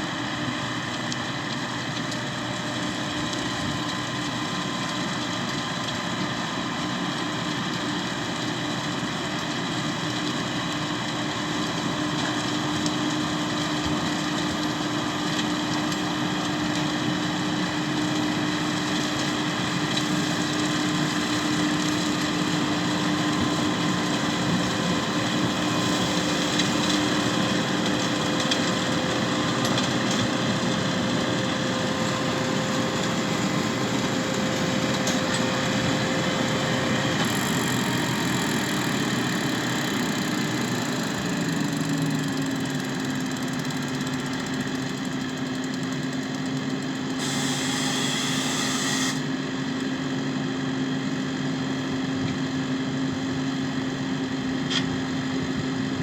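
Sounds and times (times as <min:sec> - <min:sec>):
tractor engine and machinery: 0:00.0 - 0:56.0.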